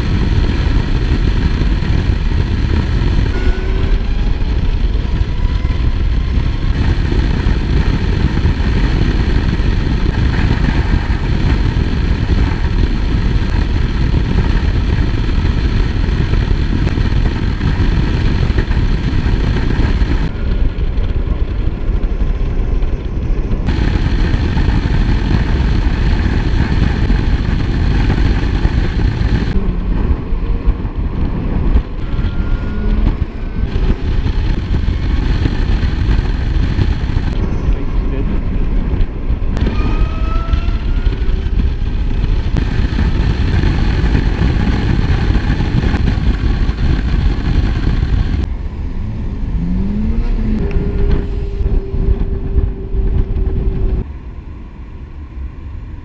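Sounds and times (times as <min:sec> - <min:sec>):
tyre and road noise: 0:00.0 - 0:56.0
wind rush and buffeting: 0:00.0 - 0:56.0.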